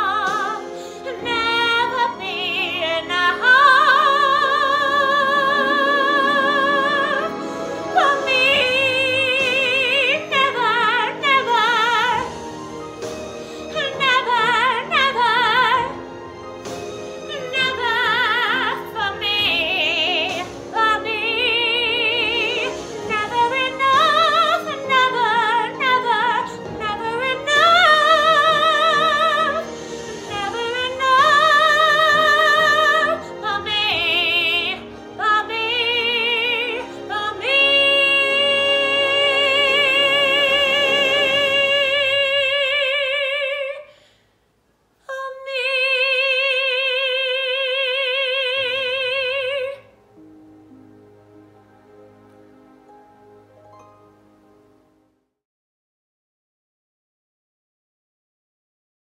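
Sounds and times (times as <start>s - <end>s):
woman singing with vibrato: 0.0s - 16.2s, 17.2s - 44.0s, 45.1s - 50.0s
musical accompaniment: 0.0s - 43.8s, 46.2s - 55.4s.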